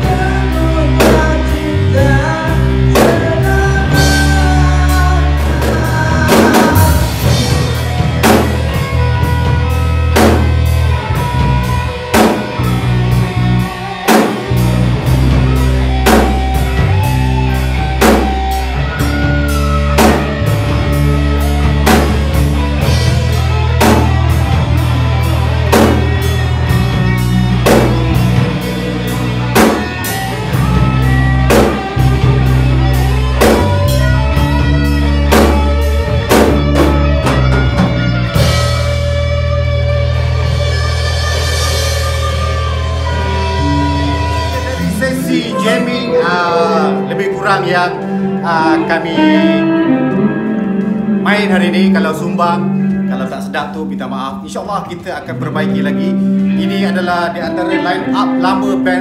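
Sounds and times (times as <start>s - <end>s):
drum kit beat: 0.0s - 53.5s
electric bass: 0.0s - 59.0s
electric guitar: 0.0s - 59.0s.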